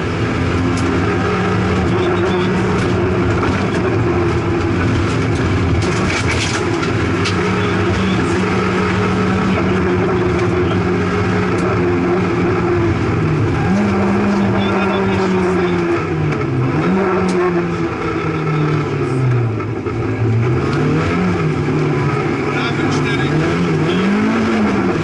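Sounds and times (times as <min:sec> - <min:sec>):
car engine revving high: 0:00.0 - 0:25.0.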